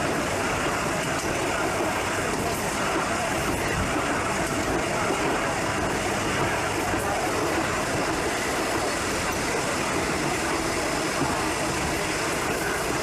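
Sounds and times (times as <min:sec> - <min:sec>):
train rumble and hiss: 0:00.0 - 0:13.0.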